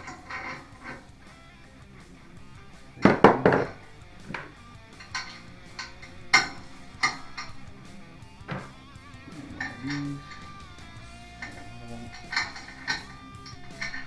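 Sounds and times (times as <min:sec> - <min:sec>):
tools clinking on metal frame: 0:00.0 - 0:01.2, 0:03.0 - 0:14.0.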